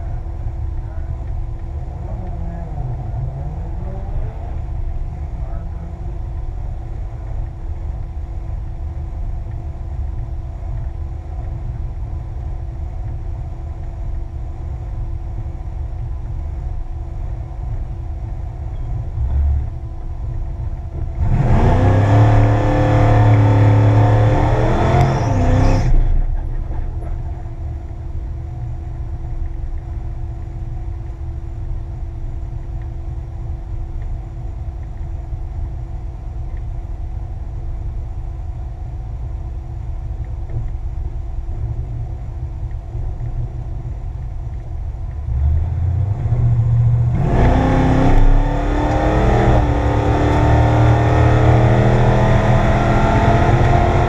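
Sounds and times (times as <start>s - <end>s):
engine idling and revving: 0.0s - 54.0s.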